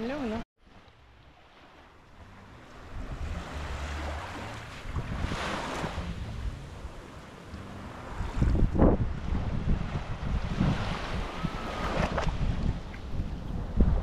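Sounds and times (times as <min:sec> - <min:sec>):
small waves lapping on shore: 0:00.6 - 0:14.0
wind rumbling on microphone: 0:01.9 - 0:14.0.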